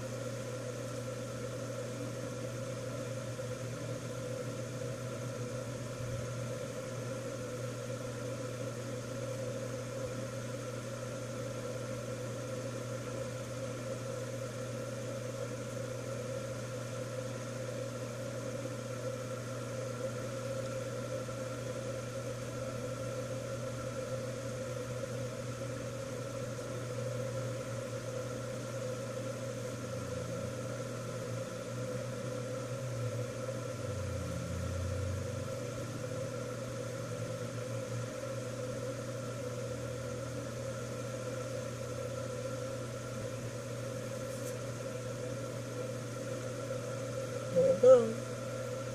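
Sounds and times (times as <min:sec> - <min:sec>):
machine hum: 0:00.0 - 0:48.9.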